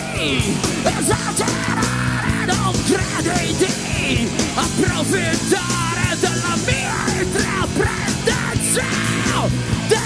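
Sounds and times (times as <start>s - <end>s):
live punk rock band: 0.0s - 10.0s.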